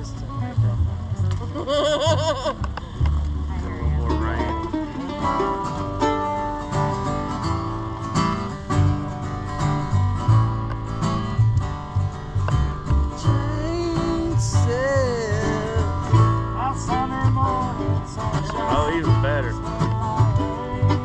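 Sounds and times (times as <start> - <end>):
plucked strings: 0.0 - 21.0
stepping bass line: 0.0 - 21.0
strummed acoustic guitar: 0.0 - 21.0
sliding melody line: 4.0 - 21.0.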